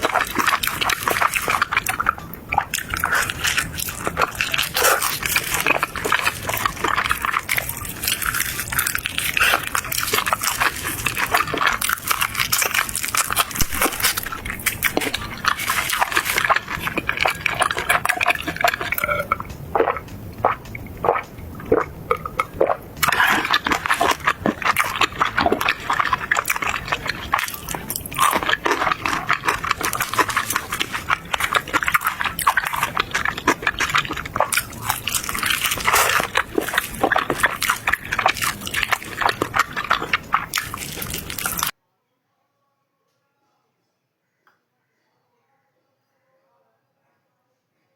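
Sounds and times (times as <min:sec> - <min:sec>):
chewing crunchy fried food: 0:00.0 - 0:41.8.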